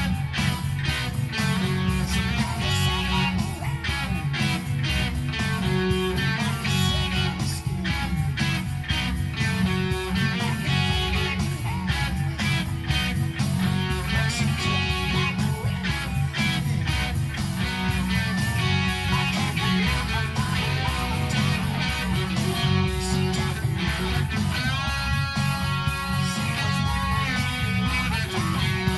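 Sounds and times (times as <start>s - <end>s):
accompaniment with steady beat: 0.0s - 28.9s
electric guitar rock line: 0.0s - 28.9s.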